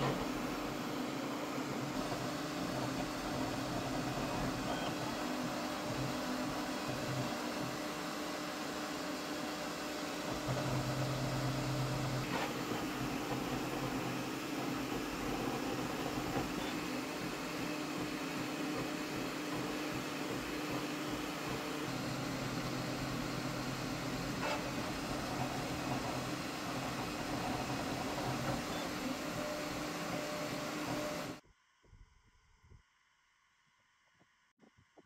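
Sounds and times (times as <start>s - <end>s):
printer fans whirring: 0.0s - 31.4s
printer motor hum: 0.0s - 31.4s.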